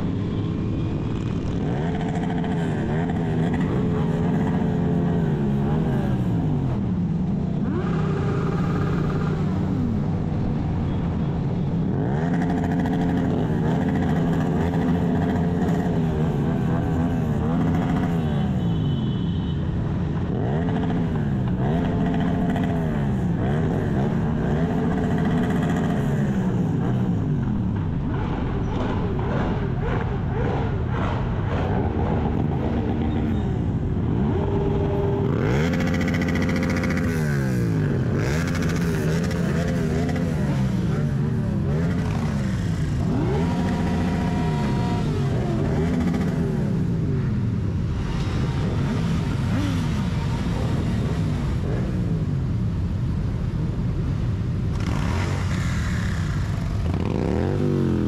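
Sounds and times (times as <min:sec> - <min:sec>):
motorcycle engine revving: 0:00.0 - 0:10.7, 0:11.8 - 0:18.8, 0:20.1 - 0:52.8, 0:54.6 - 0:58.0.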